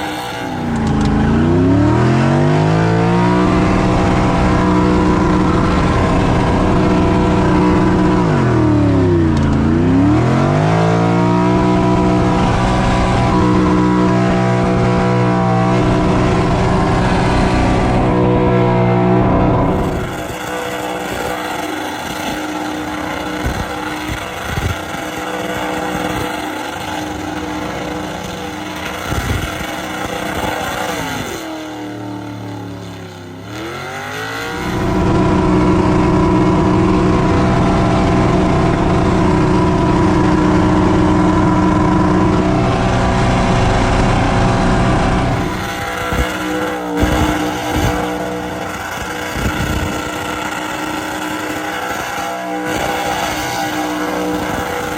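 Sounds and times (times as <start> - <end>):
engine revving hard: 0.0 - 54.9
sharp exhaust pops: 0.0 - 54.9.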